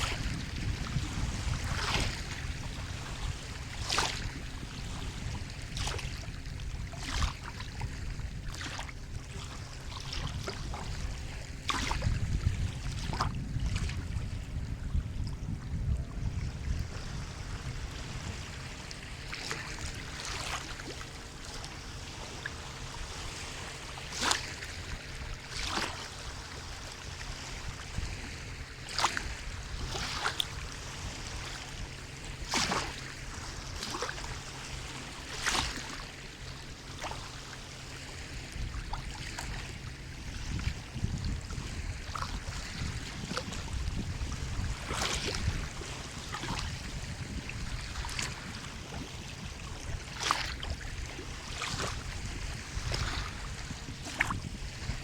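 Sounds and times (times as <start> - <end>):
low rumble of surf: 0.0 - 55.0
water lapping and splashing: 0.0 - 55.0.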